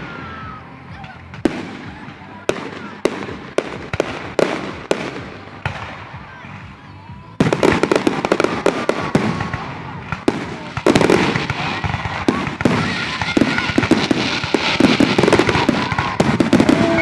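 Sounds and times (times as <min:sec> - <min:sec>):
fireworks bangs and crackling: 0:00.0 - 0:17.0
heavy fireworks booms: 0:00.0 - 0:17.0.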